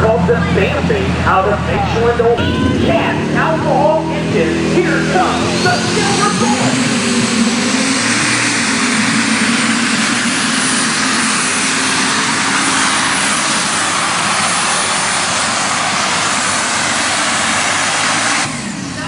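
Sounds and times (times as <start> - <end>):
tractor engine running flat out: 0.0 - 19.0.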